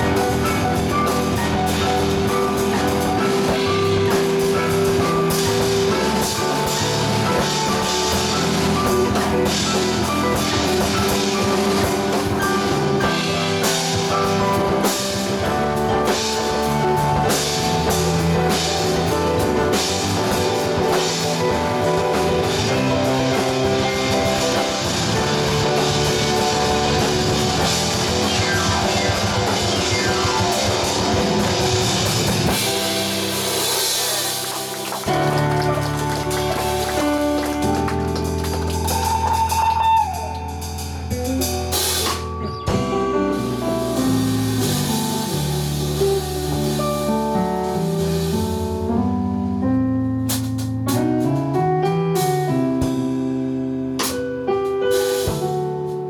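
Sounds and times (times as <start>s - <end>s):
drum kit steady beat: 0.0s - 48.9s, 50.2s - 56.0s
live band playing: 0.0s - 49.6s, 50.2s - 56.0s.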